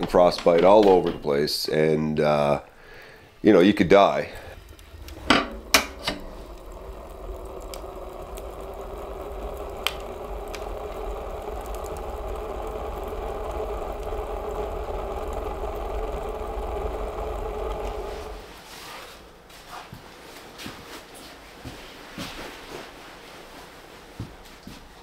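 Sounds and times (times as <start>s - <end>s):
fire crackle: 0.0s - 24.9s
wood stove fire rumbling: 0.0s - 25.0s.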